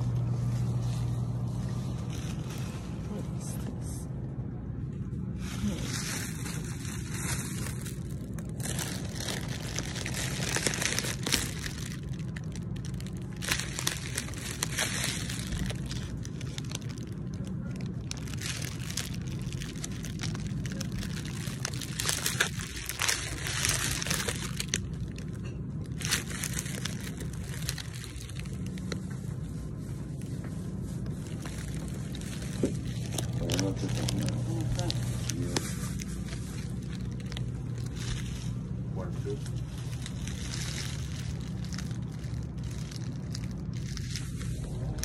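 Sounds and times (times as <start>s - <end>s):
low machinery hum: 0.0s - 45.0s.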